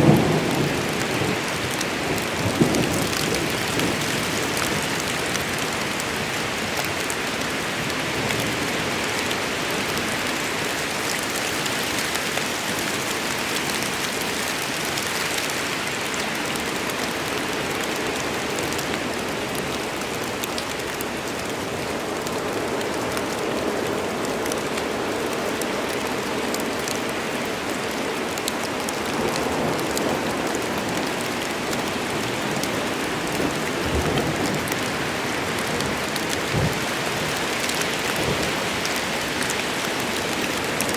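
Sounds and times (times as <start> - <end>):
heavy rain on foliage: 0.0 - 40.9
water drips and patters: 0.0 - 40.9.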